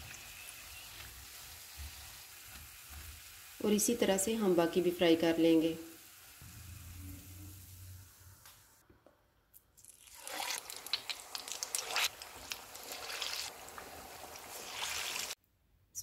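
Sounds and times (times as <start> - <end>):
hot oil sizzling and crackling: 0.0 - 8.7, 9.8 - 15.4.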